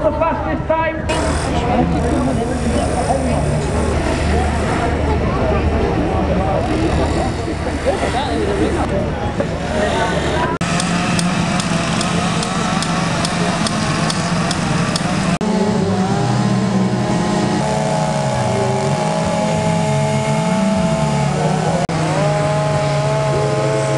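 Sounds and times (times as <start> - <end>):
chainsaw engines revving high: 1.1 - 23.9.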